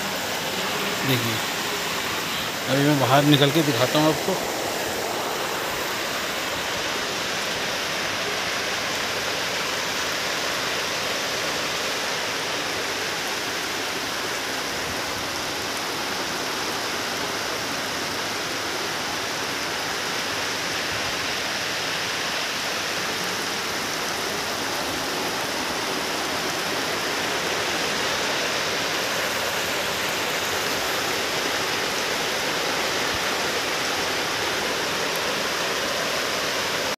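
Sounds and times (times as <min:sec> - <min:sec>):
heavy rain on water: 0:00.0 - 0:36.9.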